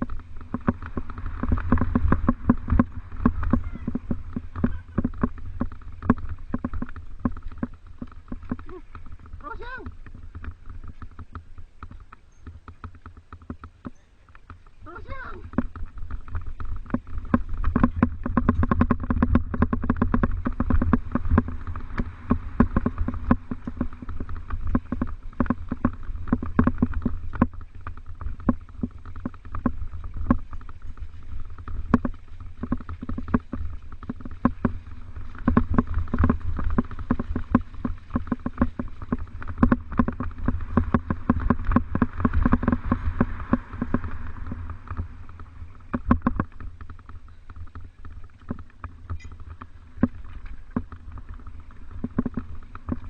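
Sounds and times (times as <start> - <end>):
low rumble: 0.0 - 53.0
mountain bike rattling and clicking: 0.0 - 53.0.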